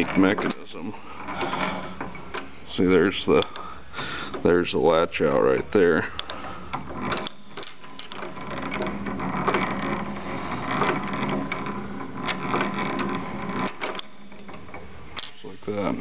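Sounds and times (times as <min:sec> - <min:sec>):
old engine valve linkage clattering: 0:00.0 - 0:15.9.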